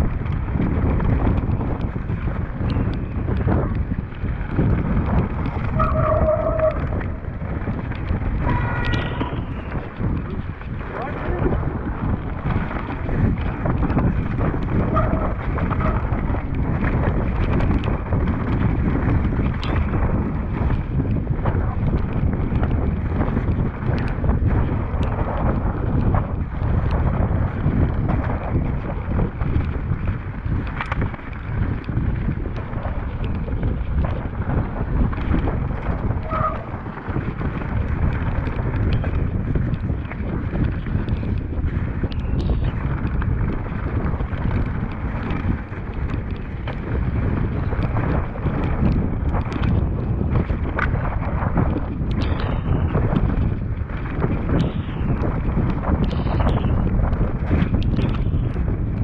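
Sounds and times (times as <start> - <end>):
bike knocking and rattling: 0.0 - 59.0
tyre roar on dirt: 0.0 - 59.0
wind buffeting microphone: 0.0 - 59.0.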